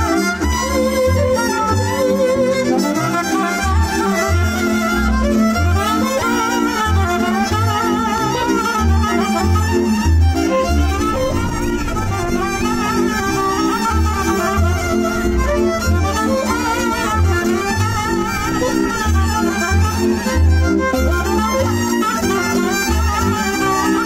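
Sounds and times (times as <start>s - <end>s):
accompanying chords: 0.0s - 24.0s
deep pulsing bass beat: 0.0s - 24.0s
fiddle melody: 0.0s - 24.0s.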